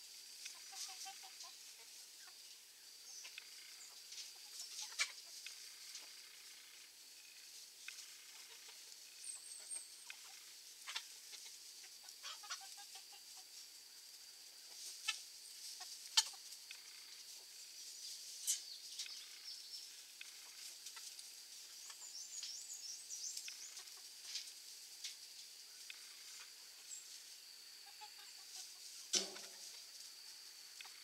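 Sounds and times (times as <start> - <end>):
chickens scratching in dry grass: 0.0 - 19.1, 19.8 - 31.0
chickens clucking: 0.3 - 31.0.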